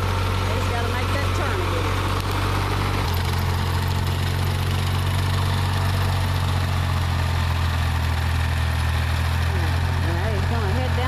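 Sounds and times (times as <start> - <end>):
mower cutting tall grass: 0.0 - 11.0
tractor engine running: 0.0 - 11.0.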